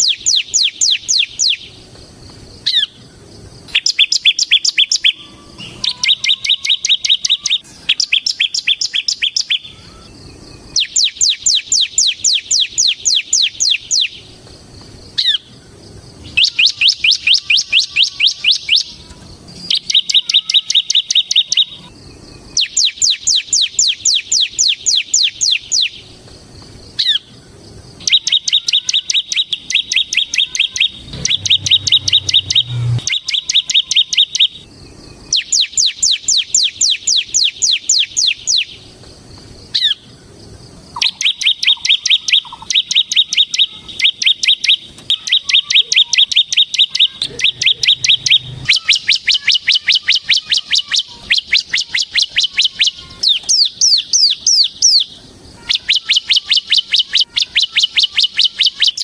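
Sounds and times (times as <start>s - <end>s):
bird singing rapid trills: 0.0s - 1.9s, 2.5s - 59.0s.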